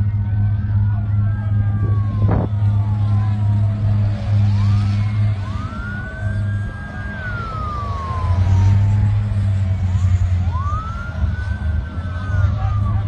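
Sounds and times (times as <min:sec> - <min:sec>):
emergency sirens wailing: 0:00.0 - 0:13.0
steady low drone: 0:00.0 - 0:13.0.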